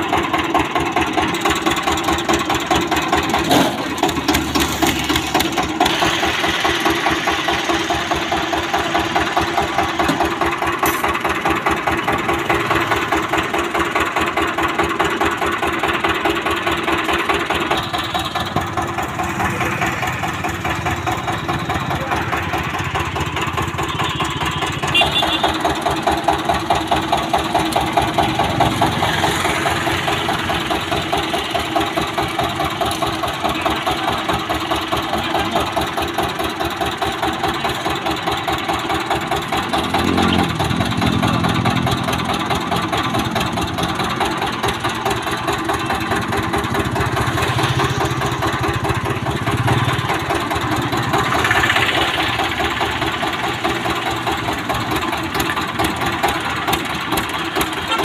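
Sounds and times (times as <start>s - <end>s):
small engine chugging: 0.0s - 58.0s.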